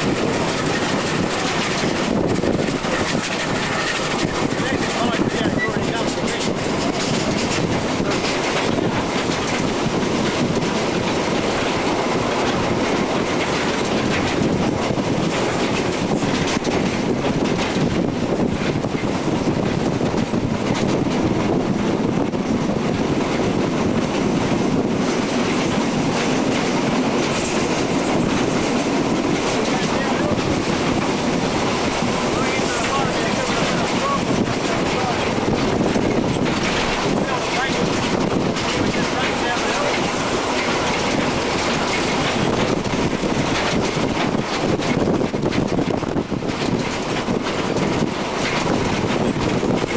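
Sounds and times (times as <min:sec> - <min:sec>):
train wheels on rails: 0:00.0 - 0:49.9.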